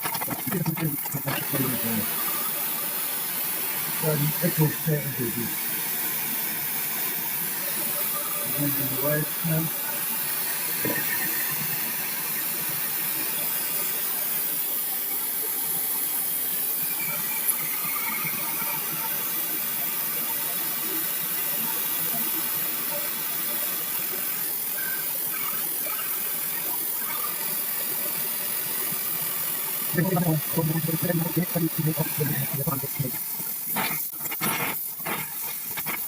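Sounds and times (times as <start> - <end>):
torch flame hissing: 0.0 - 36.0.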